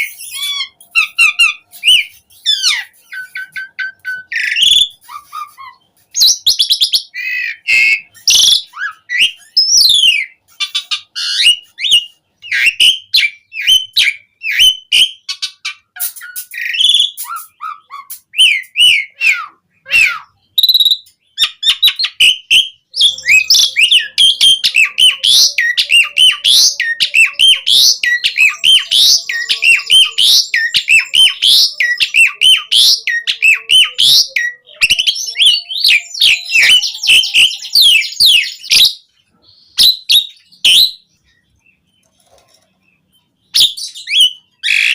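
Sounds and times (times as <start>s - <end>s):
starling singing: 0.0s - 44.9s.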